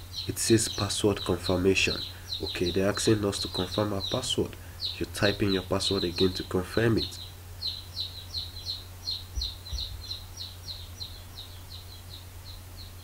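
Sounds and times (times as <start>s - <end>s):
low electrical hum: 0.0s - 13.0s
small bird chirping: 0.0s - 13.0s.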